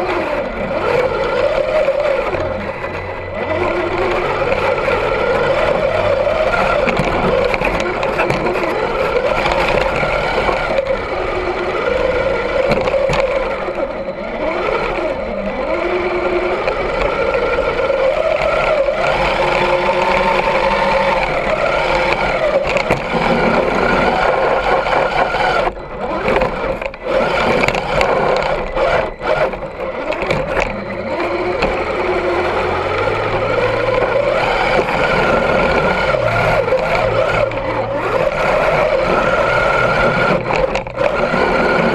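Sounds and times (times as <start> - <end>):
rc truck motor whining: 0.0 - 41.9.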